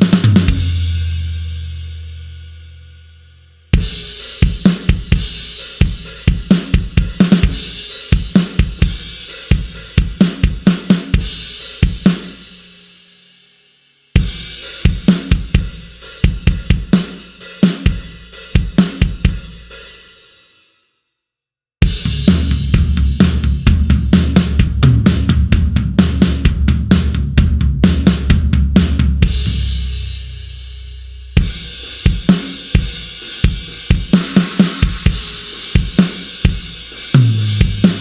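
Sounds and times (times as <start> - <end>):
drum kit playing grooves: 0.0 - 3.0, 3.7 - 13.0, 14.2 - 20.6, 21.8 - 38.0.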